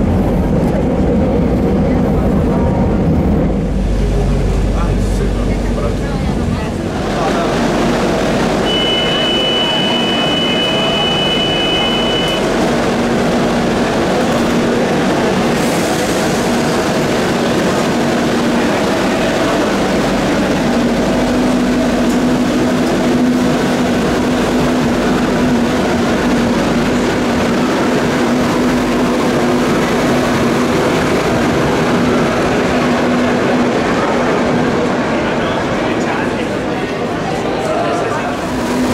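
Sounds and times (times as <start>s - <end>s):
train motor hum: 0.0s - 38.9s
train running noise: 0.0s - 38.9s.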